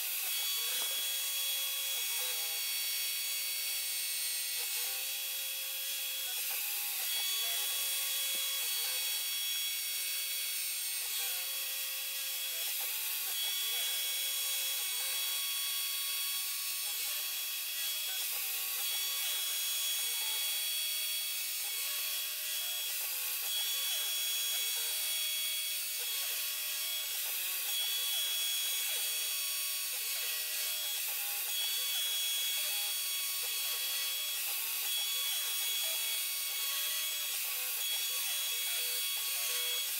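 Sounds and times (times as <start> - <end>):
router spindle whine milling metal: 0.0 - 39.9.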